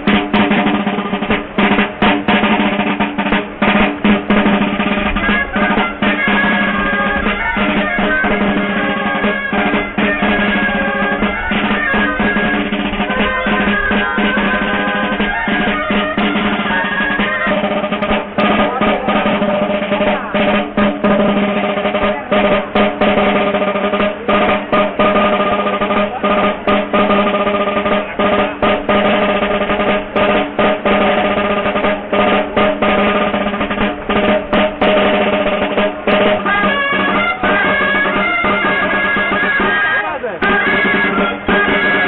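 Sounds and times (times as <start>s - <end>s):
shawms playing: 0.0s - 42.0s
snare drum rolling beats: 0.0s - 42.0s.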